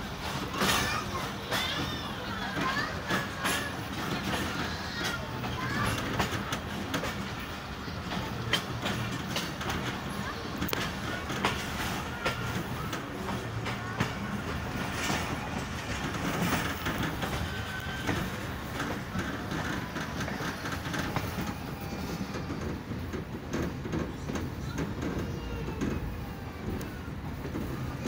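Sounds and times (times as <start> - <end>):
train wheels rumbling on rails: 0.0 - 28.0
wheels clicking over rail joints: 0.0 - 28.0.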